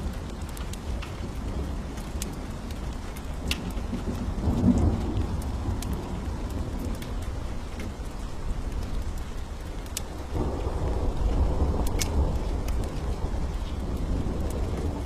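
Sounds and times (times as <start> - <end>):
low rumble of thunder: 0.0 - 15.0
steady rain: 0.0 - 15.0.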